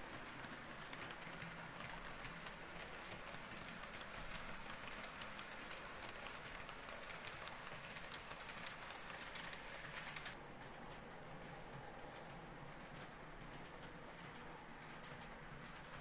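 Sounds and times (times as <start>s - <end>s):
model train wagons rattling: 0.0s - 16.0s.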